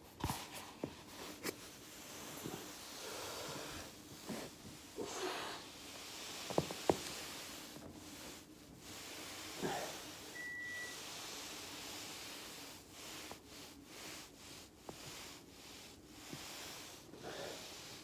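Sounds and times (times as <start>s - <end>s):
rustling on foam roller: 0.0s - 18.0s.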